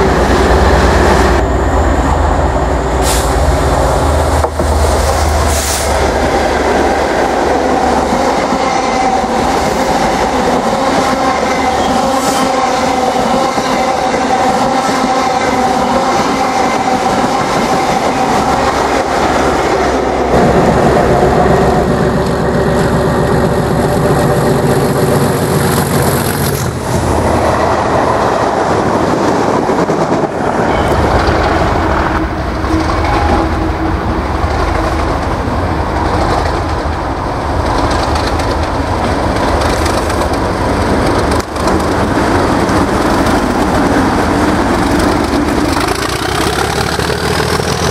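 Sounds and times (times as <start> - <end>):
low heavy diesel locomotive engine: 0.0 - 47.9
trains passing close by: 0.0 - 47.9.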